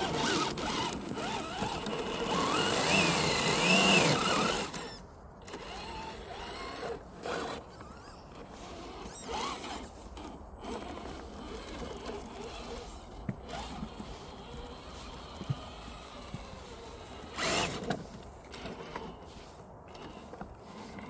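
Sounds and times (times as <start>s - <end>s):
electric toy car motor whining: 0.0s - 21.0s.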